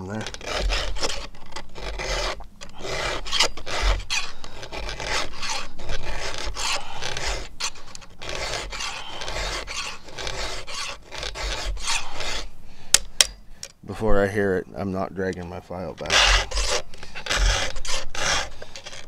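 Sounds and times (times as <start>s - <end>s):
file rasping on chain teeth: 0.0s - 12.5s, 16.0s - 19.0s.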